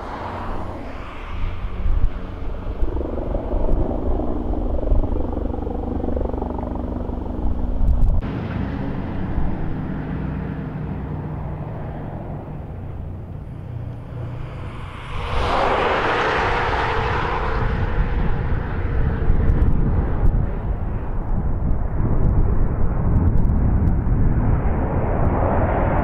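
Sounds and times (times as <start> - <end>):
aircraft engines droning overhead: 0.0 - 26.0
propeller plane droning: 0.0 - 26.0
wind rumble on microphone: 0.0 - 26.0.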